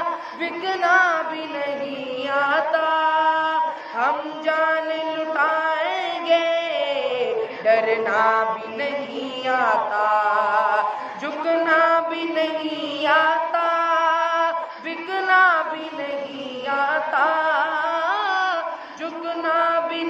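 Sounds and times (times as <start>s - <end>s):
boy singing unaccompanied: 0.0s - 20.0s.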